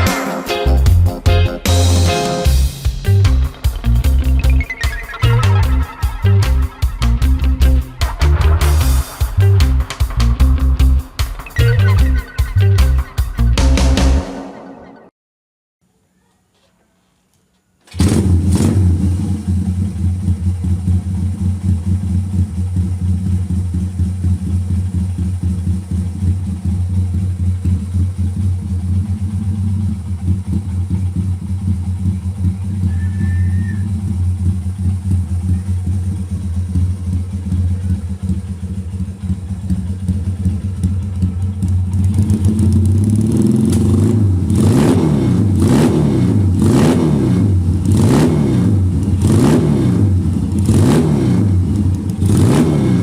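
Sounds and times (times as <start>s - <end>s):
motorcycle engine idling and revving: 0.0s - 14.5s, 17.9s - 53.0s.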